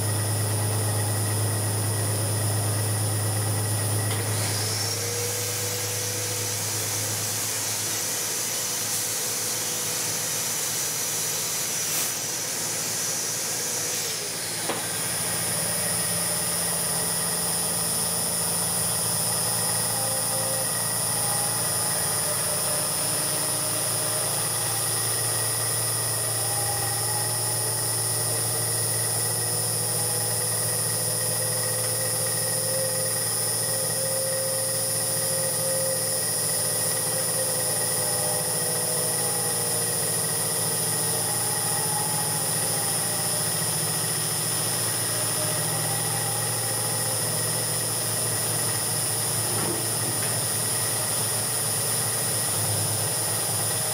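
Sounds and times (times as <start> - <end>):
milling machine whining: 0.0 - 53.9.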